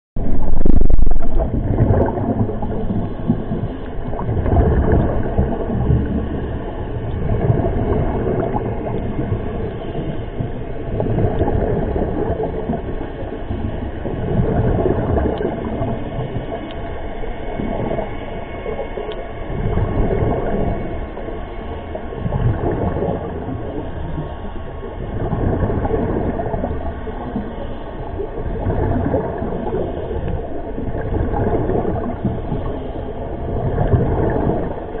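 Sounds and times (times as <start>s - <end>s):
exhaled bubbles gurgling: 0.2s - 35.0s.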